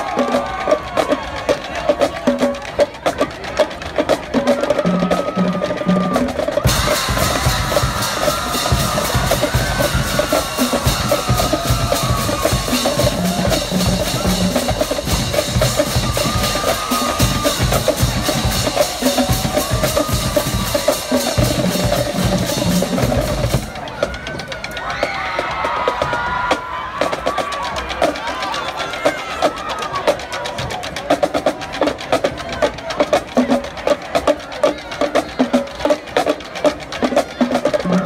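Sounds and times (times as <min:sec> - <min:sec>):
marching drumline cadence: 0:00.0 - 0:38.0.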